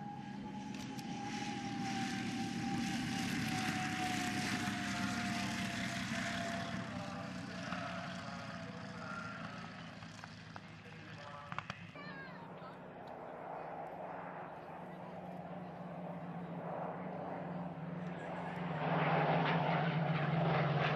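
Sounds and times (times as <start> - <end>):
propeller plane engine passing: 0.0 - 20.9.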